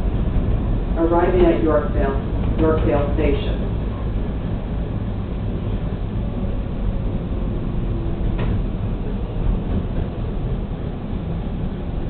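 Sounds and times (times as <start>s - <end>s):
subway train rumbling on track: 0.0s - 12.0s.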